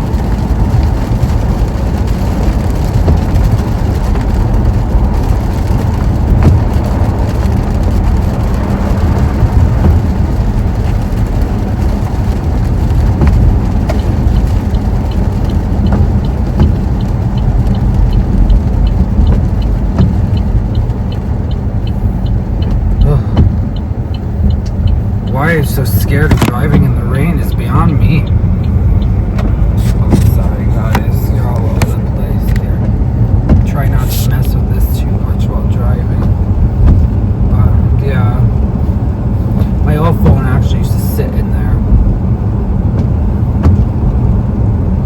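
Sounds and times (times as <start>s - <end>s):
engine and tyre rumble: 0.0s - 45.0s
rain on car: 0.0s - 45.0s
turn signal ticking: 0.0s - 45.0s.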